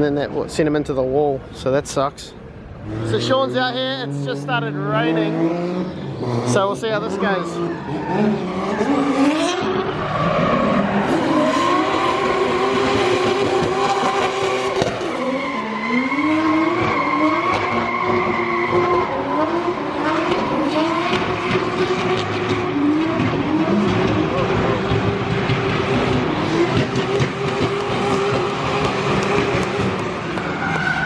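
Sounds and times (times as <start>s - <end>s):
tyres skidding: 0.0s - 31.0s
car engine revving hard: 2.8s - 31.0s.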